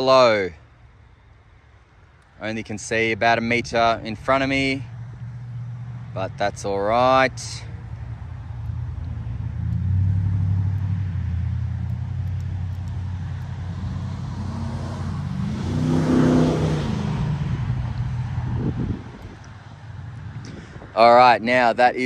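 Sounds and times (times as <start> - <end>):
car engine humming: 1.7 - 21.7.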